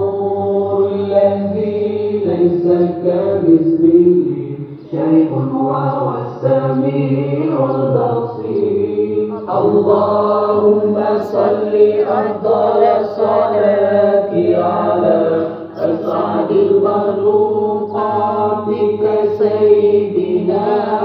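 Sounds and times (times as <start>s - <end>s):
voices chanting: 2.2s - 21.0s.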